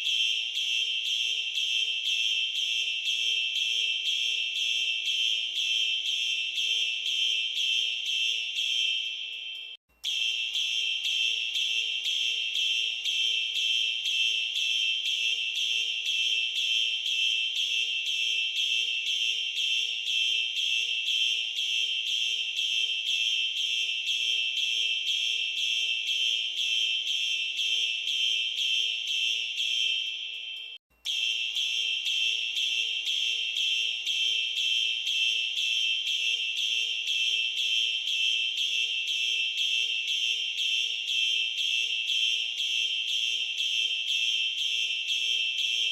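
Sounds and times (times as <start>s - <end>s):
fire alarm pulsing: 0.0s - 45.9s.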